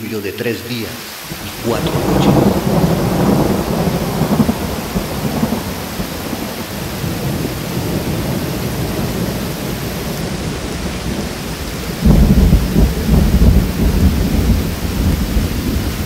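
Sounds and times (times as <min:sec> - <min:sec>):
rain pouring: 0:00.0 - 0:16.0
thunder rumbling: 0:01.2 - 0:16.0.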